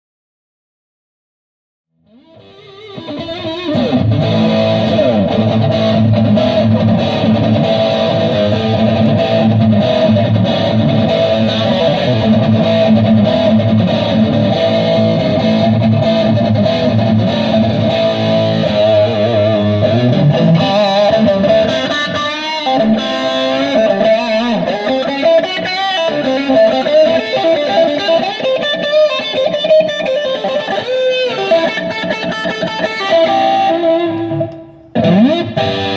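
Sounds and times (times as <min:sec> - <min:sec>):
electric guitar playing rock riff: 0:02.0 - 0:35.9.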